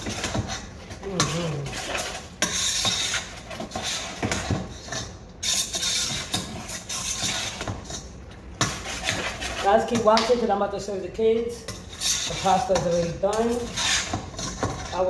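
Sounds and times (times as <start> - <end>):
spoon scraping inside pot: 0.0 - 10.4, 11.6 - 15.0.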